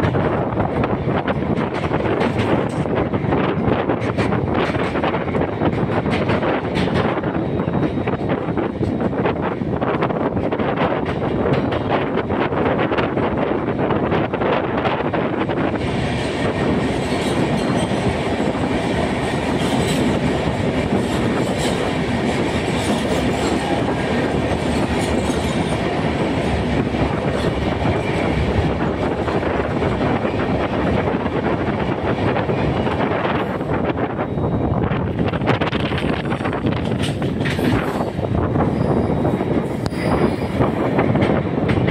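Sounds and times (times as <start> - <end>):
train running on rails: 0.0 - 41.9.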